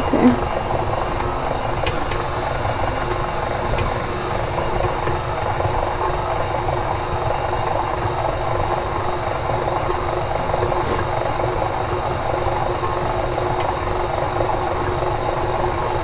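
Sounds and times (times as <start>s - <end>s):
electric stand mixer running: 0.0s - 16.0s.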